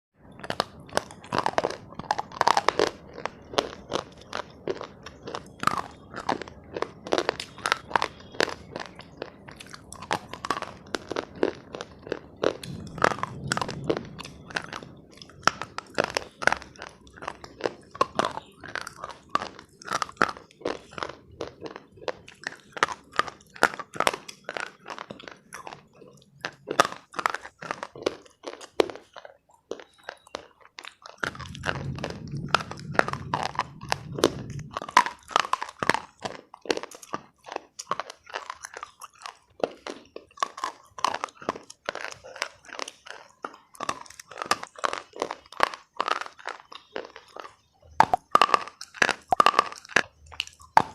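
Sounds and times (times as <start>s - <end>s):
person crunching brittle food: 0.2s - 50.9s.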